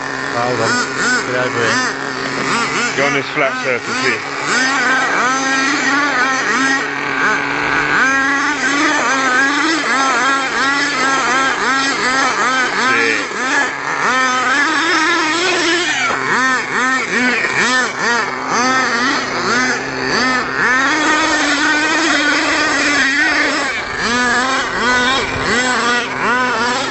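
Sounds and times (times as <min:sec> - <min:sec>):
small engine high-pitched buzz revving: 0:00.0 - 0:26.9.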